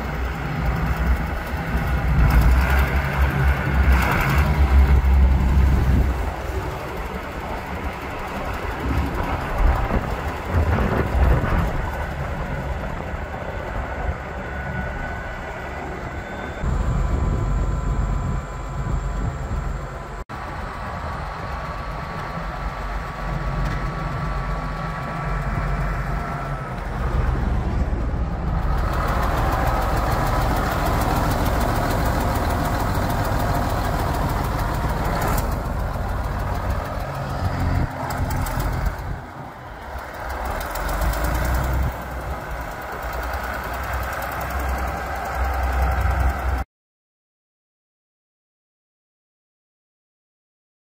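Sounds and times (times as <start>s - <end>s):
tractor diesel engine droning: 0.0s - 46.6s.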